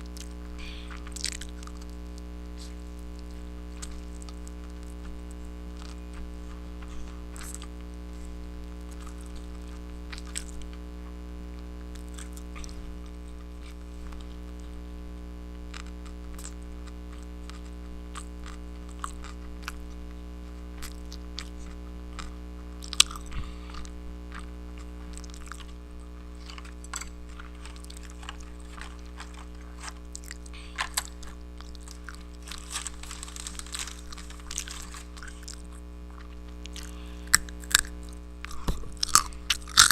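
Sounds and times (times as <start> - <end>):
crunchy chewing: 0.0 - 39.9
electrical hum: 0.0 - 39.9.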